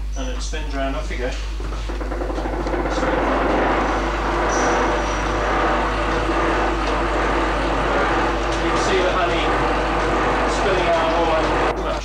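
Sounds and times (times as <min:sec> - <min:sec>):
honey extractor whirring: 0:01.3 - 0:12.0.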